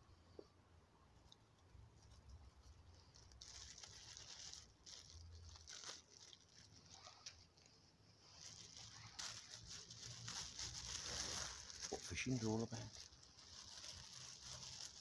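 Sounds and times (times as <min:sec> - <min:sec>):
plastic bag crinkling: 0:01.7 - 0:15.0.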